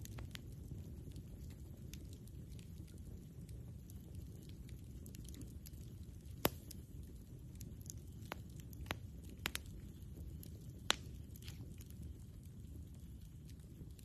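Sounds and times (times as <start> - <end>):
campfire wood crackling and popping: 0.0 - 14.0.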